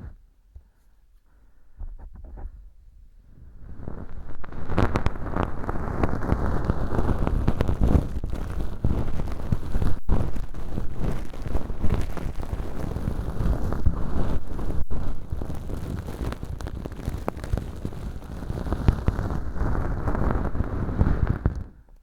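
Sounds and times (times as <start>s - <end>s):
feather earpick scratchy crackle: 3.8s - 21.7s.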